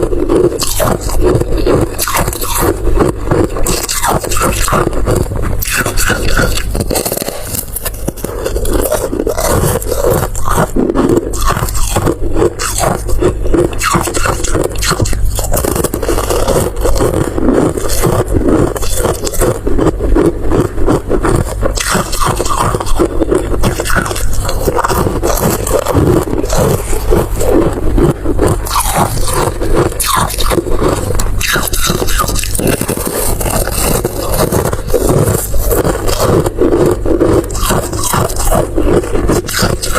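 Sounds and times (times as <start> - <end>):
eating crunching and scraping: 0.0 - 39.9.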